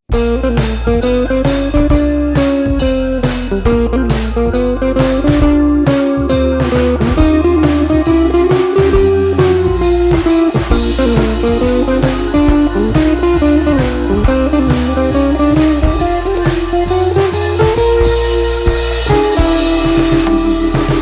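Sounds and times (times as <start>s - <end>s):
bass and drum beat: 0.0s - 21.0s
bluesy electric guitar melody: 0.0s - 21.0s.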